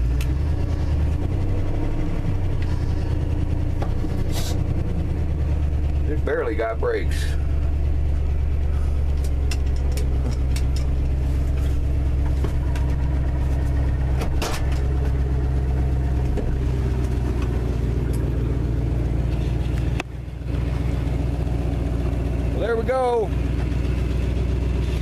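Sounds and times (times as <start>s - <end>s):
pickup engine running: 0.0s - 25.0s.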